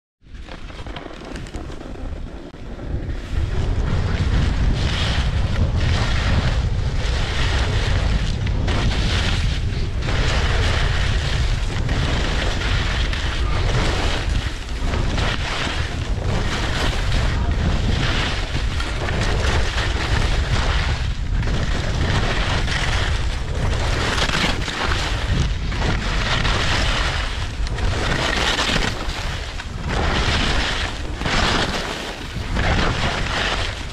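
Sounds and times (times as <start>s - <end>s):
skis scraping icy snow: 0.3s - 33.9s
wind buffeting microphone: 0.4s - 33.9s.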